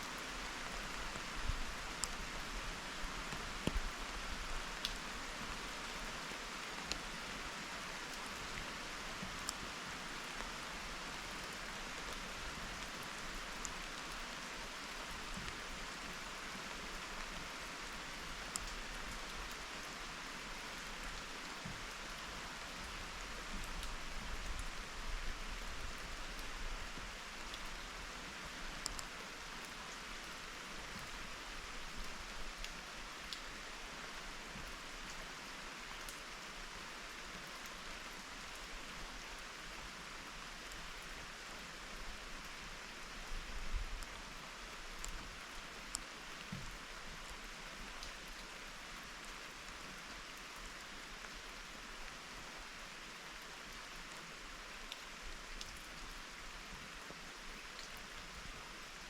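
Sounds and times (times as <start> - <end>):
raindrops ticking on a surface: 0.0 - 59.0
steady rain hiss: 0.0 - 59.0.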